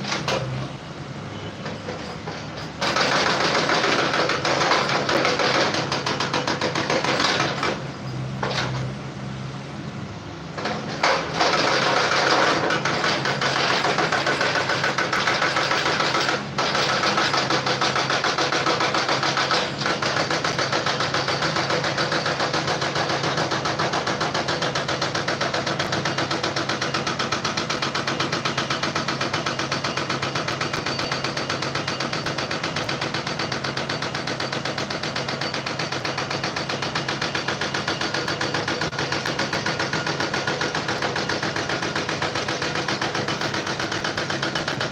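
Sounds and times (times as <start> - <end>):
small machine rattling: 1.9 - 7.8, 10.6 - 44.9.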